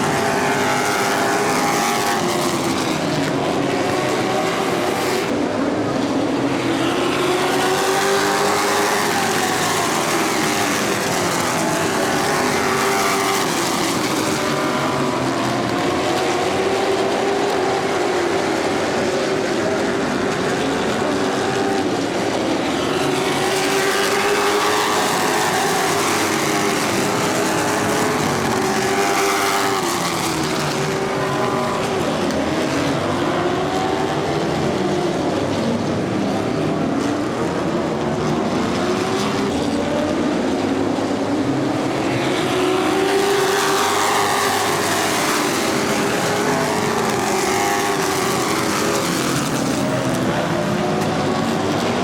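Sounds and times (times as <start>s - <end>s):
race car engines passing: 0.0s - 52.0s.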